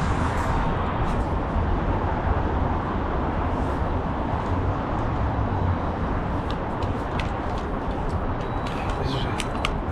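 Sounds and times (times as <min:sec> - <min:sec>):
low outdoor rumble: 0:00.0 - 0:08.4.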